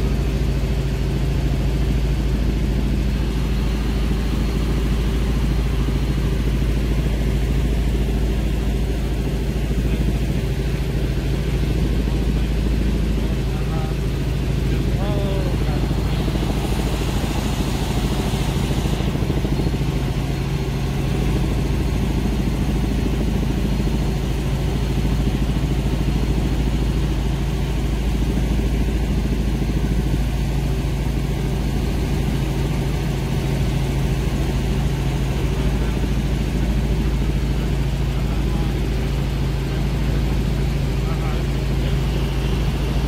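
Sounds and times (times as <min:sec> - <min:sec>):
helicopter engine and rotor drone: 0:00.0 - 0:43.0.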